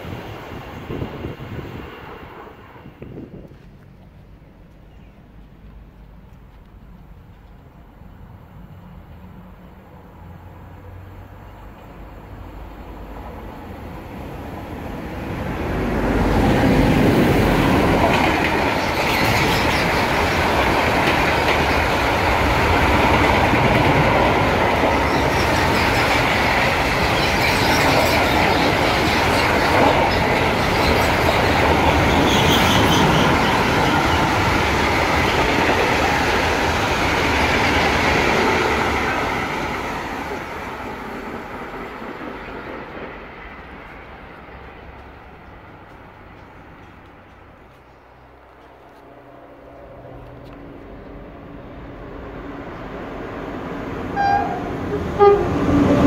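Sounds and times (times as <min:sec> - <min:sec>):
electric freight train passing: 0:00.0 - 0:56.0.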